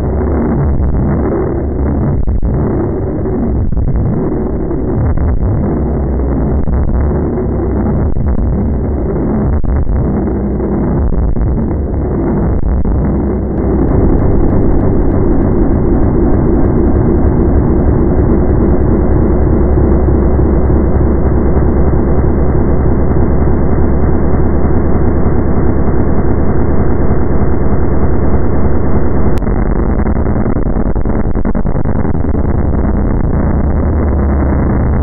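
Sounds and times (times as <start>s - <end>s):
steady low drone: 0.0s - 35.0s
harsh noise music: 0.1s - 35.0s.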